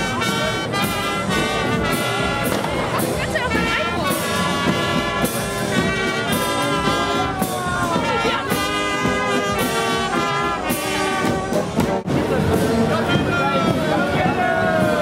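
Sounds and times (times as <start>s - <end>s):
bass drum and cymbal beating: 0.0s - 15.0s
marching brass band playing: 0.0s - 15.0s.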